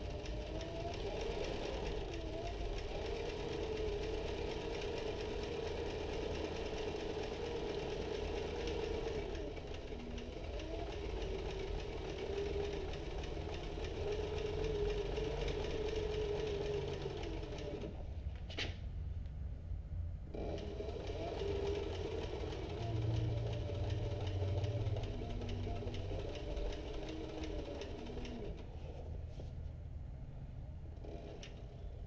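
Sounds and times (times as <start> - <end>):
sewing machine needle strokes: 0.0 - 18.0, 20.4 - 29.1
sewing machine motor hum: 0.0 - 18.1, 20.3 - 29.5, 30.9 - 32.0.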